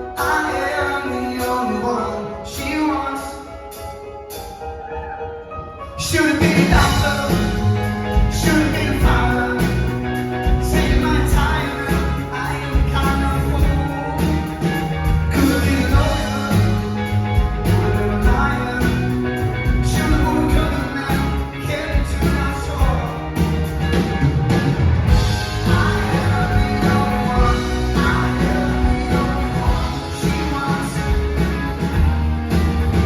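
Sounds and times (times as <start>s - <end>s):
person singing: 0.0s - 4.0s, 5.9s - 24.3s, 25.1s - 33.0s
live rock band playing: 6.0s - 33.0s.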